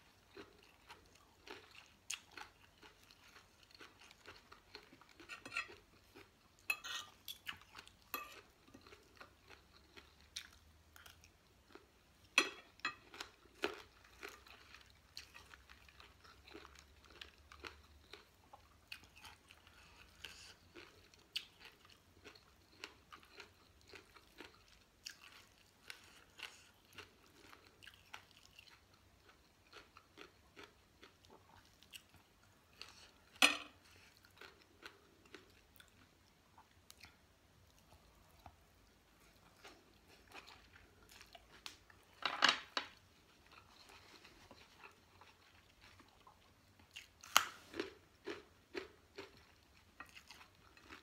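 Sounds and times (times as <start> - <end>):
chewing and crunching: 0.0 - 51.0.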